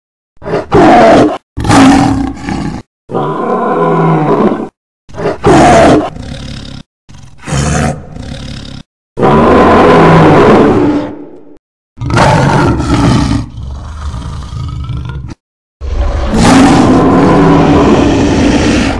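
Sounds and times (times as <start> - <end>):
dinosaur roars and growls: 0.4 - 18.9.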